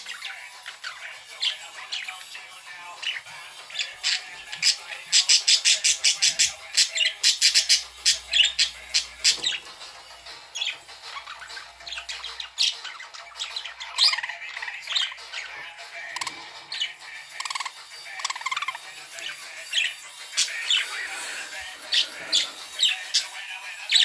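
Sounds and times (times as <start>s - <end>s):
budgerigars chirping: 0.0s - 2.4s, 3.0s - 24.0s.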